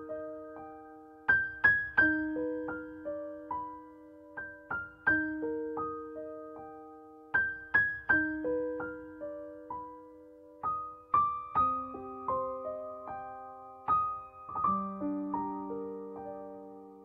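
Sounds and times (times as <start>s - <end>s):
gentle keyboard melody: 0.0s - 17.0s.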